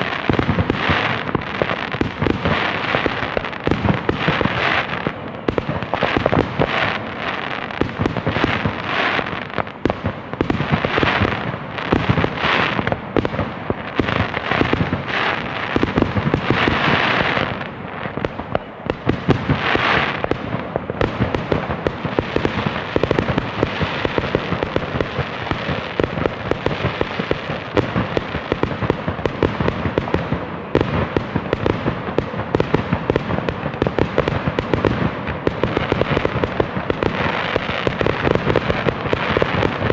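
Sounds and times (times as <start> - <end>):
fireworks bangs and crackling: 0.0 - 39.9
fireworks hissing bursts: 0.0 - 39.9.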